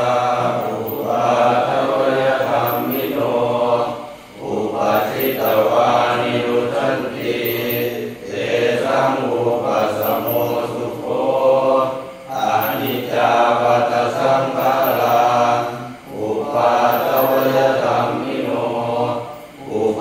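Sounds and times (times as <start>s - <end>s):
chanting recitation: 0.0s - 20.0s.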